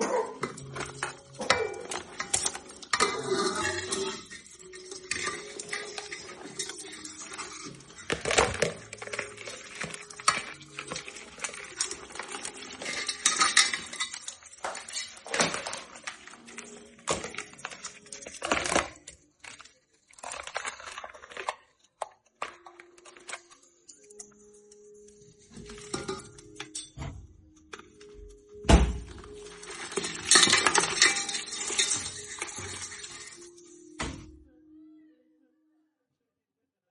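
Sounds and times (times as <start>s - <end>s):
metal cookware clattering: 0.0s - 28.1s, 28.8s - 34.3s
quiet background music: 0.0s - 36.5s.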